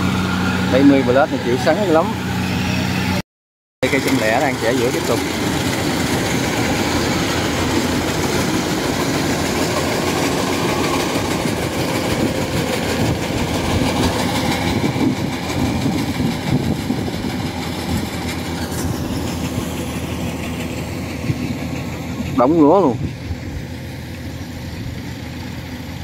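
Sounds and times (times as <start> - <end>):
combine harvester machinery clatter: 3.8 - 26.0
tracks rattling: 3.8 - 26.0.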